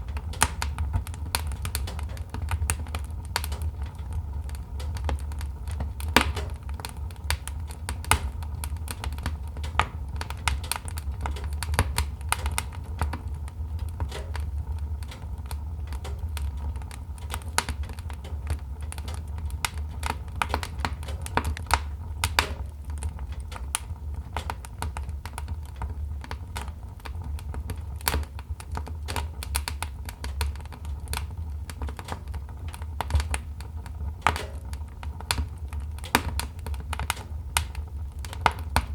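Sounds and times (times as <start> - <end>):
low fire rumble: 0.0 - 38.9
wood fire crackling: 0.0 - 38.9.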